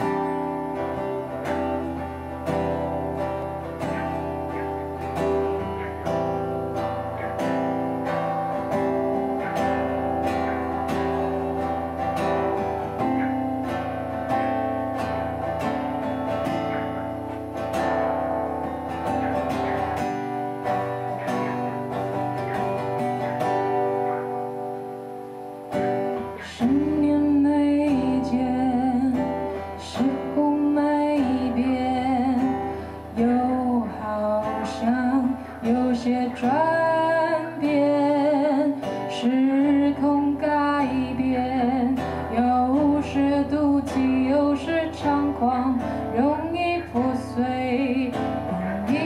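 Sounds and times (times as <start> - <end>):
woman singing a slow ballad: 0.0 - 17.0, 25.8 - 49.0
acoustic guitar strumming: 0.0 - 49.0.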